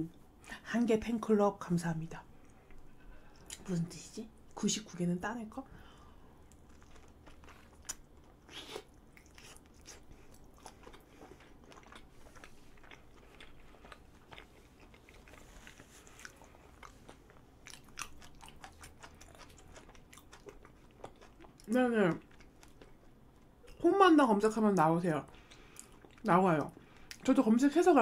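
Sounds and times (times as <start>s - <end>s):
soft chewing: 2.2s - 4.6s, 5.8s - 23.9s, 24.7s - 27.8s.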